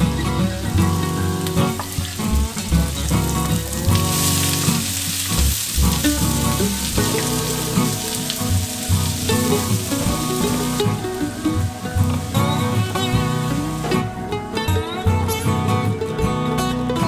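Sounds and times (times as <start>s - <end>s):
background music: 0.0s - 17.0s
onions sizzling in a frying pan: 0.1s - 14.6s.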